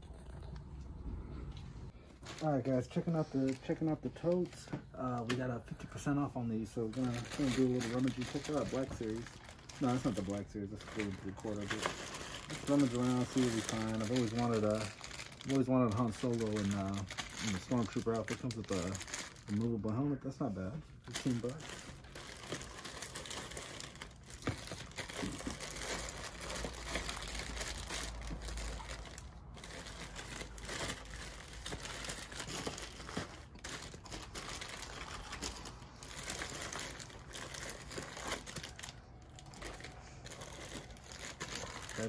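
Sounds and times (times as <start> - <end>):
plastic bags crinkling: 2.0 - 20.0, 21.0 - 42.0.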